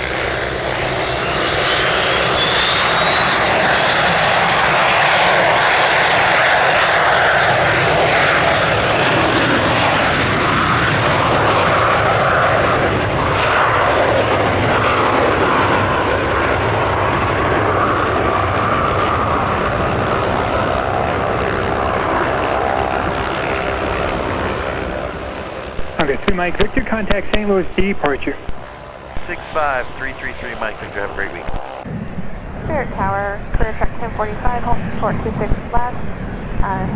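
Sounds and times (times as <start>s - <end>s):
jet taking off: 0.0s - 36.9s.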